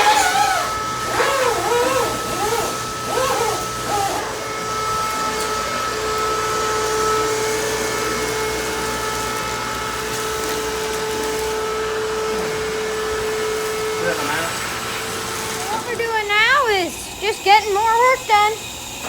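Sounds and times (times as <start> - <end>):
electric motor whining hum: 0.0 - 19.0.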